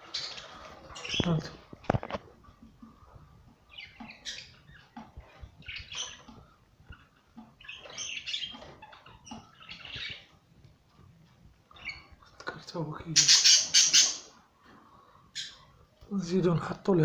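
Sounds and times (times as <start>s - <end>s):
bird chicks chirping and squawking: 0.0s - 16.4s.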